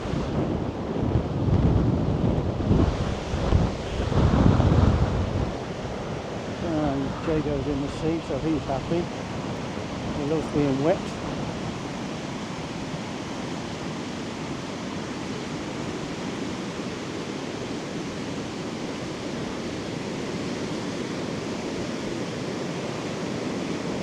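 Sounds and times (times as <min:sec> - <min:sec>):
sea surf: 0:00.0 - 0:24.0
wind: 0:00.0 - 0:24.0.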